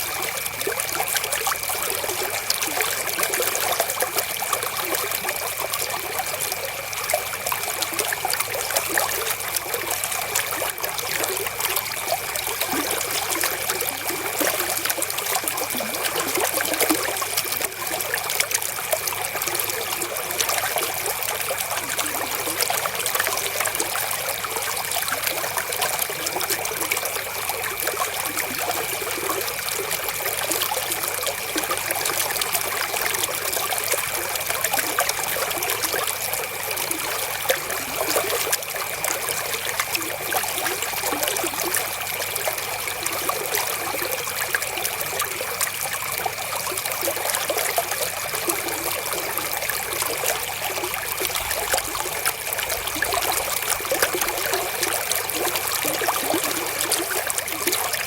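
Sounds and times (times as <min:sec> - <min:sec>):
river water flowing and splashing: 0:00.0 - 0:58.0.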